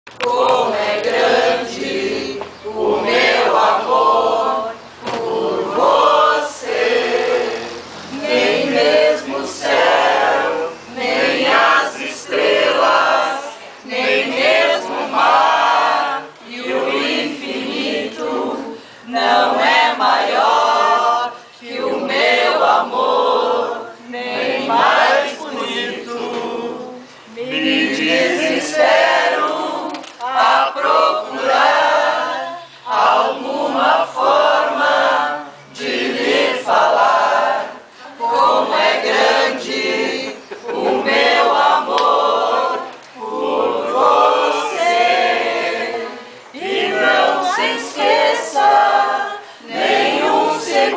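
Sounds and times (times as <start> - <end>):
men and women singing in chorus: 0.1 - 50.9.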